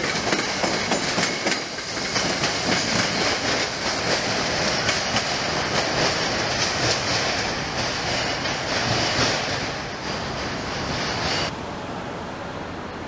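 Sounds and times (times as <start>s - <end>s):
train wheels rushing on rails: 0.0s - 11.6s.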